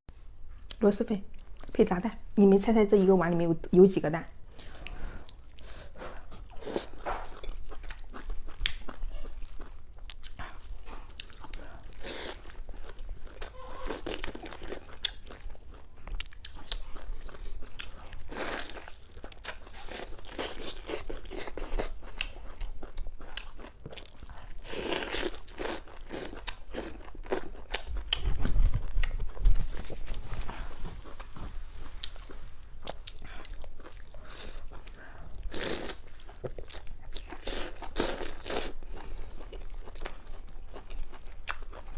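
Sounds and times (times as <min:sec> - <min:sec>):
person chewing and crunching food: 0:04.5 - 0:41.9.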